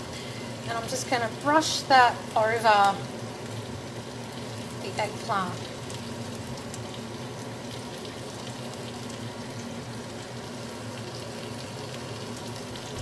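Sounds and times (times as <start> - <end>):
eggplant sizzling in oil: 0.0 - 13.0.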